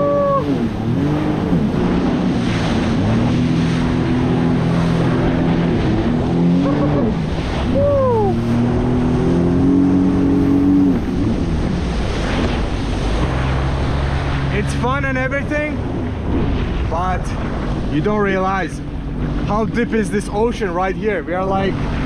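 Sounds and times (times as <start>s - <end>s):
jet ski engine running hard: 0.0s - 22.0s
water spray and wind rushing: 0.0s - 22.0s.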